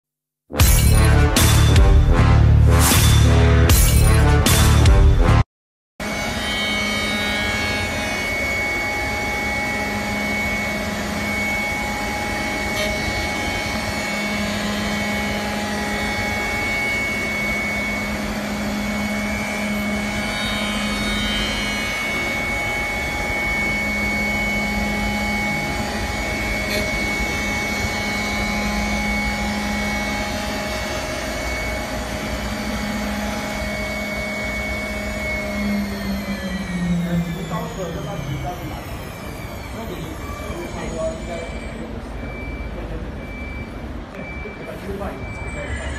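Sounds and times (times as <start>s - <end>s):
high whine: 0.5s - 5.4s, 6.0s - 45.9s
wood cutting noise: 0.5s - 5.4s, 6.0s - 44.4s
lathe low hum: 6.0s - 45.9s.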